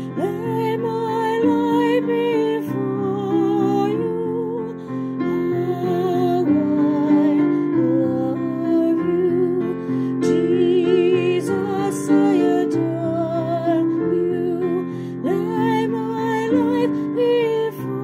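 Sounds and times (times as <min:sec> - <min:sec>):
voices singing a worship song: 0:00.0 - 0:04.6, 0:05.4 - 0:18.0.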